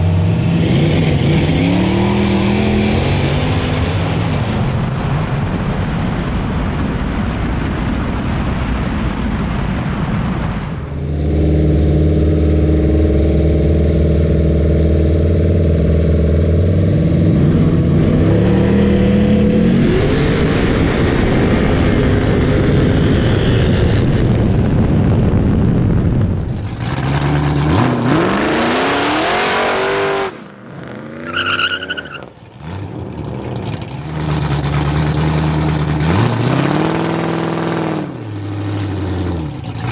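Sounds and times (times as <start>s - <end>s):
car engines revving and accelerating: 0.0s - 6.8s, 10.8s - 24.2s, 26.2s - 39.9s.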